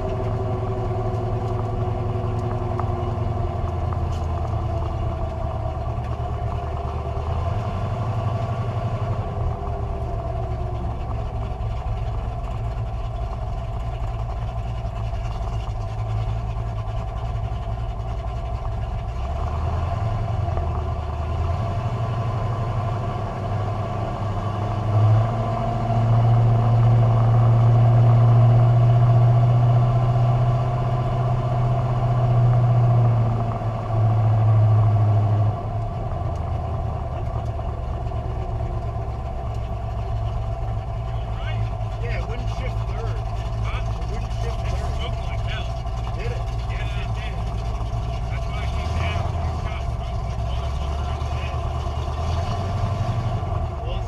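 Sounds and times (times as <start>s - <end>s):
drag car engine idling: 0.0s - 54.0s.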